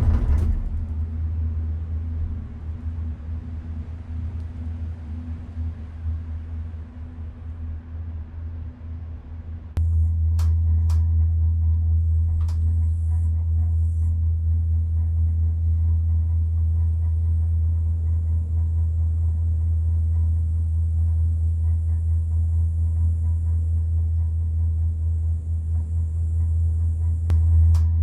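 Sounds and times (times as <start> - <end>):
gondola cabin rumble and hum: 0.0 - 28.0.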